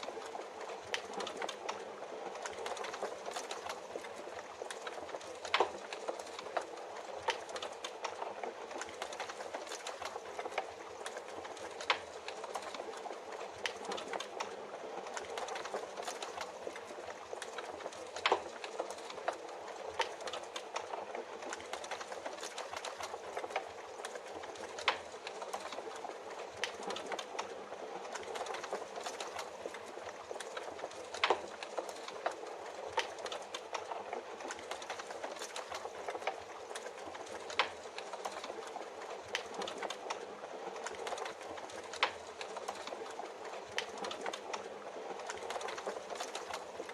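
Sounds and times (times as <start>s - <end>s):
steady rain hiss: 0.0s - 46.9s
wood fire crackling: 0.0s - 46.9s.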